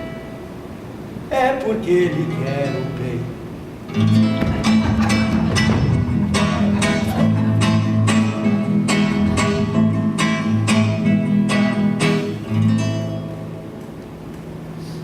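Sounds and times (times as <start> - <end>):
acoustic guitar strumming chords: 1.3 - 13.8.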